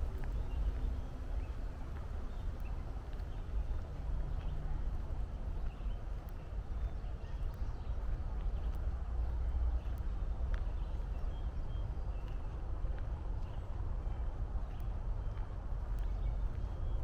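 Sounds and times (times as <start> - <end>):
footsteps on a trail: 0.0 - 17.0.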